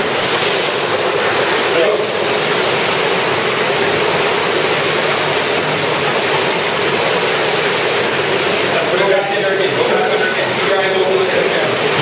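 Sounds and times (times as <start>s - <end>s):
rushing cave stream water: 0.0s - 12.0s.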